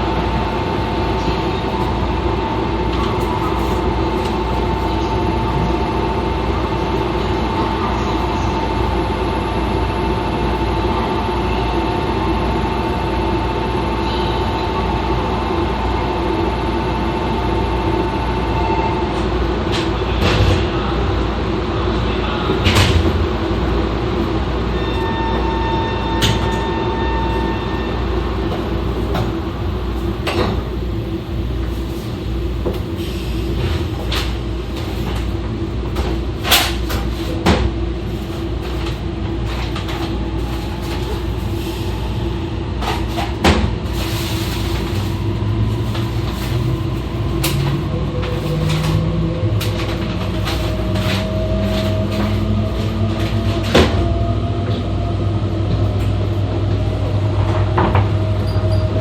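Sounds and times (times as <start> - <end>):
train low rumble: 0.0 - 59.0.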